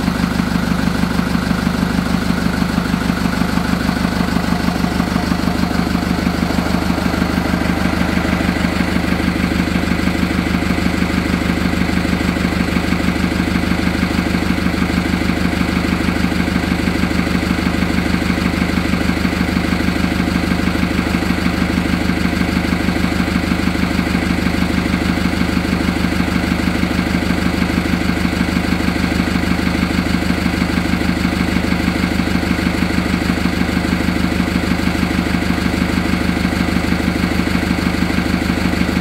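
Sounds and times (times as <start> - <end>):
diesel tractor engine idling: 0.0 - 39.0.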